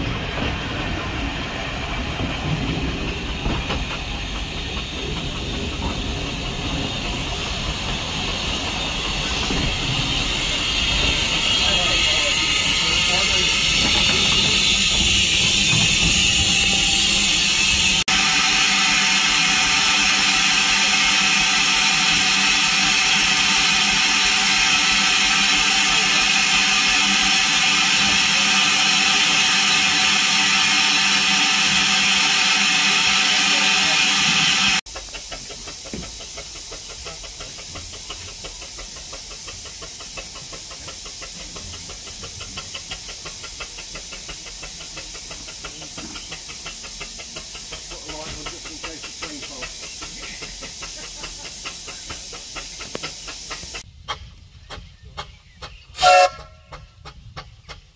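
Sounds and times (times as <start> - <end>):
steam hissing with ringing tones: 3.1 - 53.9.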